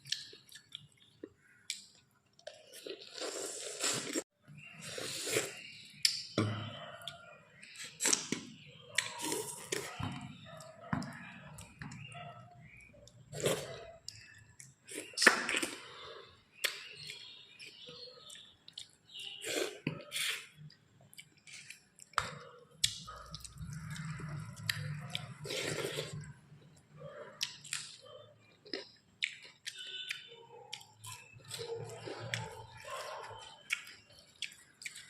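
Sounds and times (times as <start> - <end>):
person chewing food: 0.0 - 6.3, 6.9 - 10.0, 10.6 - 35.0.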